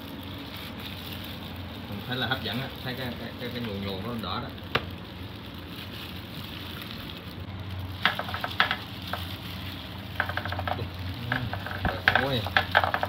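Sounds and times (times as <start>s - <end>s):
wet squelching of food mixing: 0.0s - 12.8s
steady low hum: 0.0s - 13.0s.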